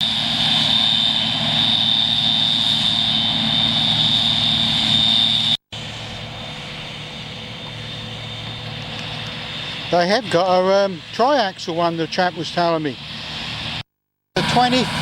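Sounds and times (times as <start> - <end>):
combine harvester drone: 0.0 - 13.8, 14.4 - 15.0
constant high whine: 0.0 - 15.0.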